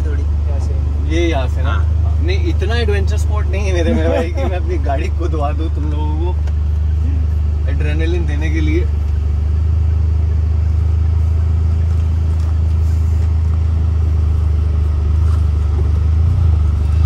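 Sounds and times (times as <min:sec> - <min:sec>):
car engine droning inside cabin: 0:00.0 - 0:17.0
road noise: 0:00.0 - 0:17.0.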